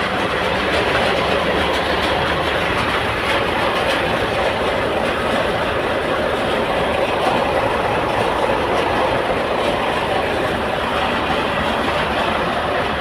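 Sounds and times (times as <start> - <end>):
heavy machinery engine rumbling: 0.0 - 13.0.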